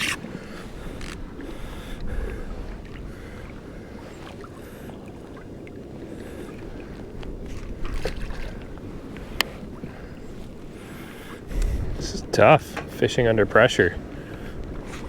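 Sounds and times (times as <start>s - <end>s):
sea water washing against hull: 0.0s - 15.0s.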